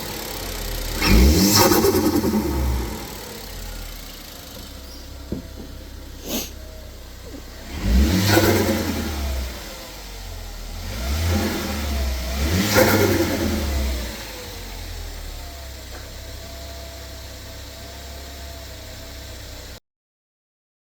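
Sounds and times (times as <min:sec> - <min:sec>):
car engine idling and revving: 0:00.0 - 0:19.8.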